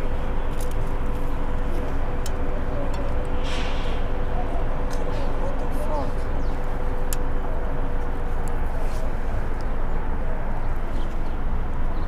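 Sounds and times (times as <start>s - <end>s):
bicycle road noise: 0.0s - 12.0s.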